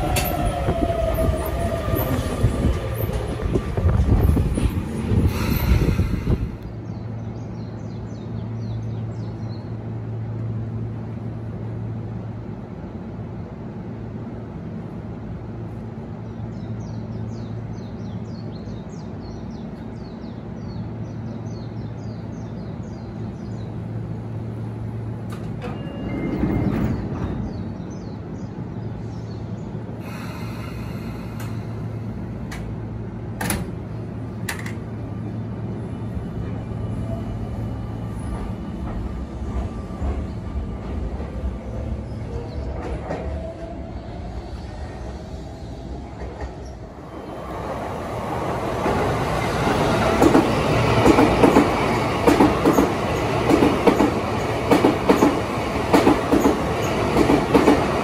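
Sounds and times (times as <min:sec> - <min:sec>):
electric train humming: 0:00.0 - 0:17.7, 0:22.2 - 0:58.0.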